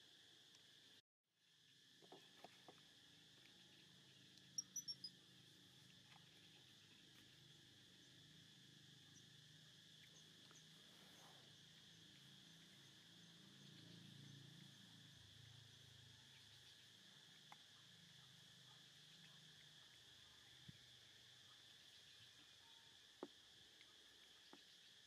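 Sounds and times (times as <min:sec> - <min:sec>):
insects chirring: 0:00.1 - 0:25.0.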